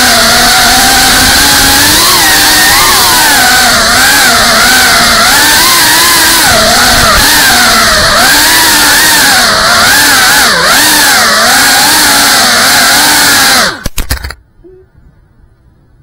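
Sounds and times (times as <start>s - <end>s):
drone motors whining: 0.0s - 14.4s.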